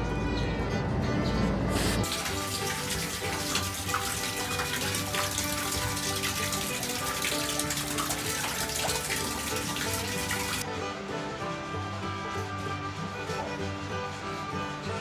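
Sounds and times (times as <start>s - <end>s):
background music: 0.0s - 15.0s
running water splashing: 1.7s - 11.3s, 12.2s - 15.0s.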